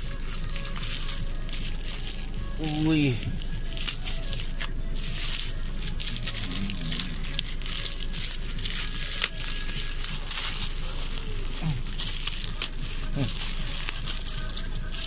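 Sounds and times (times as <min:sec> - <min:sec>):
plastic mailer crinkling: 0:00.0 - 0:15.0.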